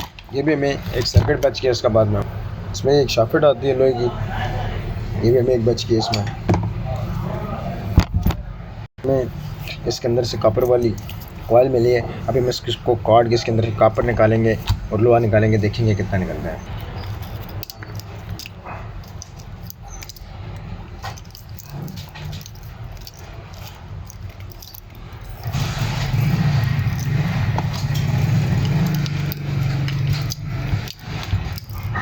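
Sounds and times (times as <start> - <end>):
low hum with rattling: 4.9 - 32.0
metal clinking and scraping: 5.3 - 8.5, 9.1 - 32.0.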